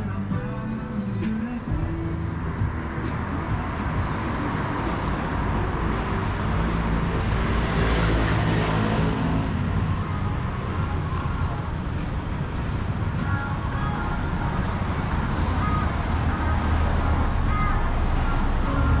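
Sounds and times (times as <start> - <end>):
road traffic rumble: 0.0 - 19.0
vehicle passing close: 2.2 - 19.0.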